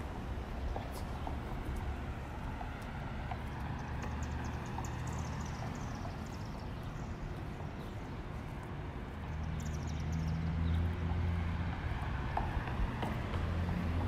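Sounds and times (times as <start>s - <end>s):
vehicle engines humming: 0.0s - 14.0s.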